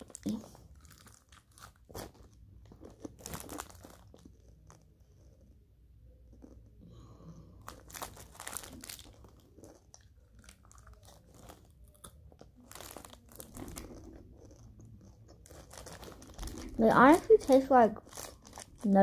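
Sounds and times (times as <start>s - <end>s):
plastic wrapper crinkling: 0.0s - 4.9s, 7.6s - 19.0s
candy crunching and chewing: 0.0s - 19.0s.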